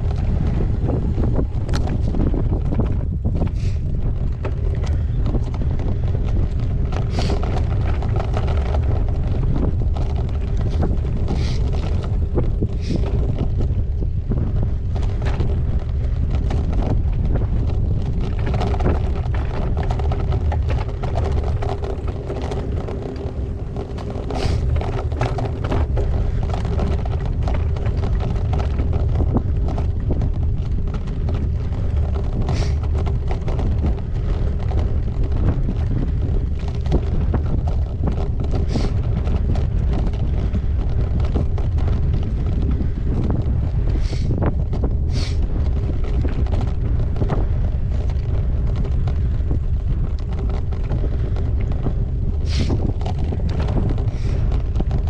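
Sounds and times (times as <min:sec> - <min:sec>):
bike clicks and rattles: 0:00.0 - 0:55.0
tyres rumbling on gravel: 0:00.0 - 0:55.0
wind buffeting microphone: 0:00.0 - 0:55.0.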